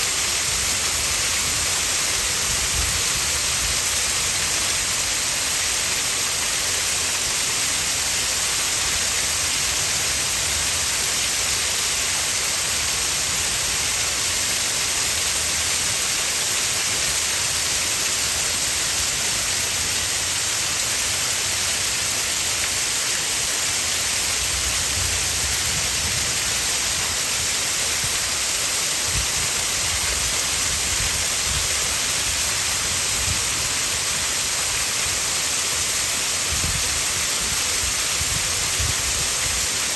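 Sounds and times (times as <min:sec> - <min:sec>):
water splashing in waterfall: 0:00.0 - 0:39.9.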